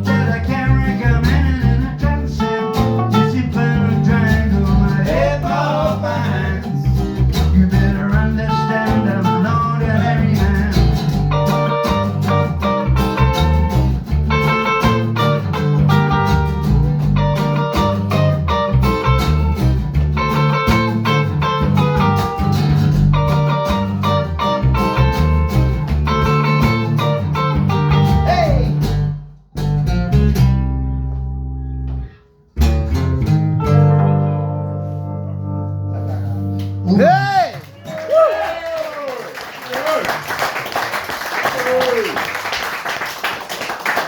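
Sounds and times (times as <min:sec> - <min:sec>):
guitar band music: 0:00.0 - 0:38.0.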